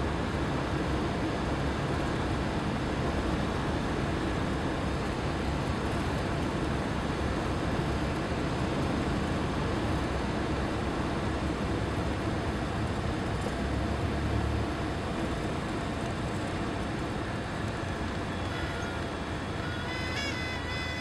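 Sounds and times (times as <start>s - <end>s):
light aircraft engine drone: 0.0s - 21.0s.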